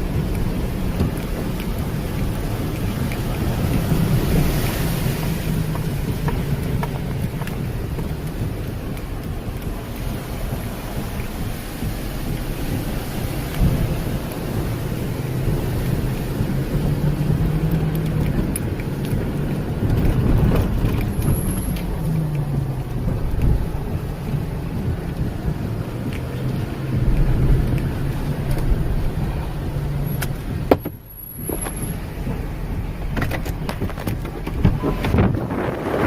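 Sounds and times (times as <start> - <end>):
rain: 0.0 - 36.0
storm wind: 0.0 - 36.0
vehicle engine humming: 0.0 - 36.0.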